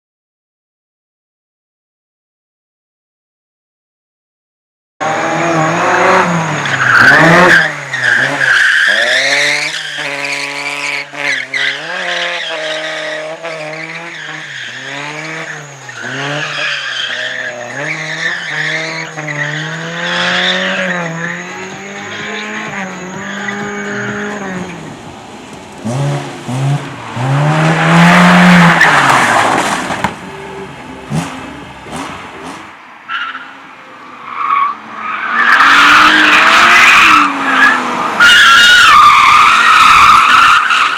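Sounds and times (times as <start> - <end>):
car engine revving: 5.0 - 40.9
tyres squealing: 5.9 - 19.7, 20.3 - 40.9.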